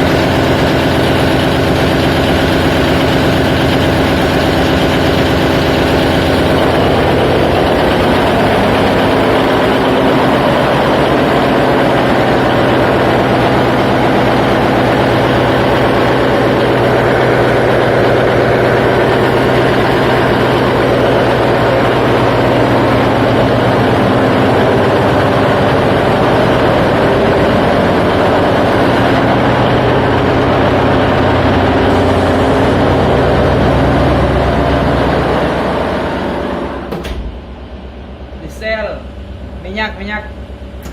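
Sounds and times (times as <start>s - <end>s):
ship's diesel engine running: 0.0s - 40.9s.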